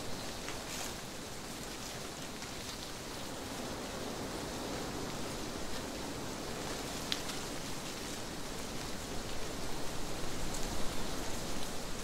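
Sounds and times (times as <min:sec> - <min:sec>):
wind rustling leaves: 0:00.0 - 0:12.0.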